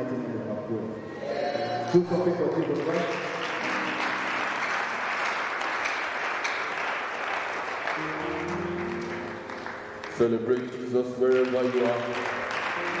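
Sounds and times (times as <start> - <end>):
crowd applauding: 1.6 - 13.0.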